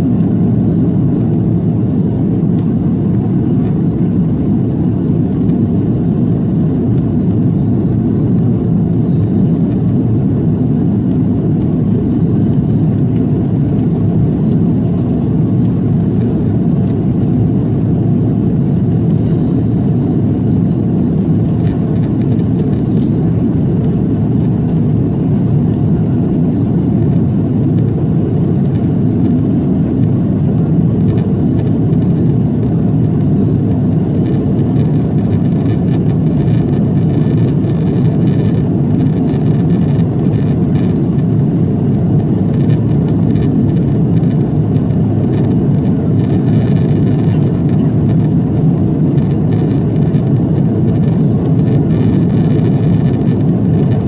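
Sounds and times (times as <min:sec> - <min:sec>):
airflow over fuselage: 0:00.0 - 0:54.0
airplane cabin engine rumble: 0:00.0 - 0:54.0.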